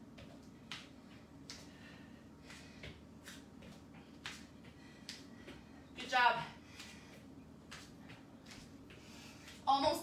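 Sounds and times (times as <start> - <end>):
low steady hum: 0.0 - 10.0
soft rhythmic exercise noise: 0.0 - 10.0.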